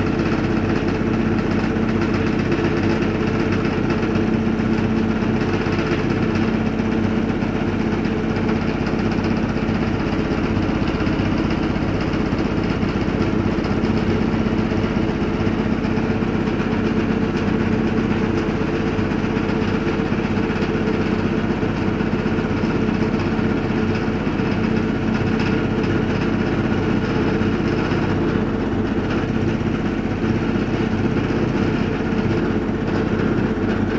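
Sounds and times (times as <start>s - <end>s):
washing machine spinning: 0.0s - 33.9s.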